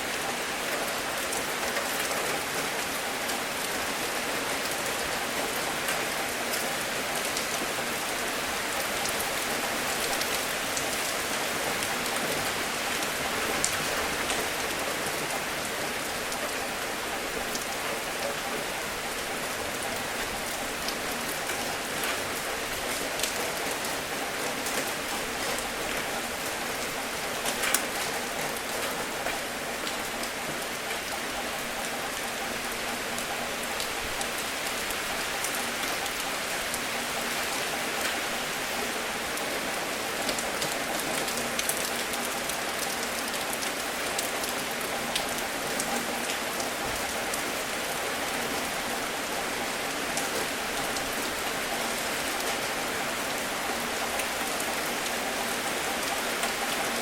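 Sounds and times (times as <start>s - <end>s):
steady rain falling: 0.0s - 57.0s
raindrops ticking: 8.6s - 57.0s.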